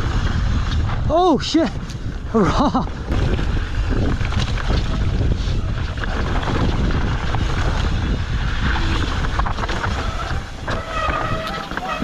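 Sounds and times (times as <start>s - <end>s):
bike tyres rolling on rocky trail: 0.0s - 12.0s
wind buffeting microphone: 0.0s - 12.0s.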